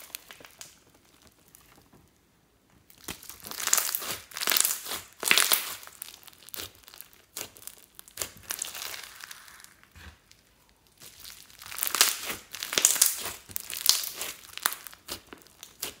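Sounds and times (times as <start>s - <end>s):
slime squishing and crackling: 0.0s - 2.2s, 2.8s - 16.0s.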